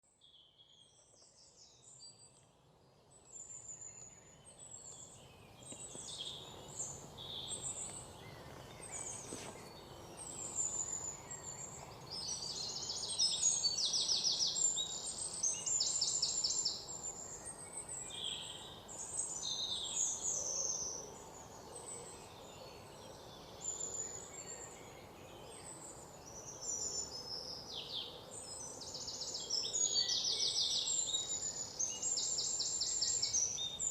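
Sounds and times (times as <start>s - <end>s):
faint background hiss: 0.1s - 33.9s
birds chirping and trilling: 0.2s - 33.9s.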